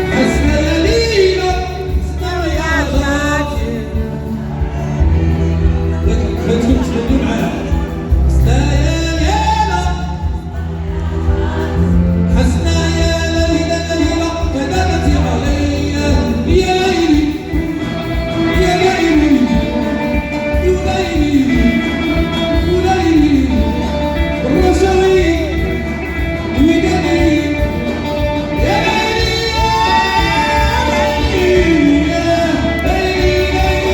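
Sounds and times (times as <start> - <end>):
amplified backing music with bass: 0.0 - 33.9
man singing: 0.0 - 33.9.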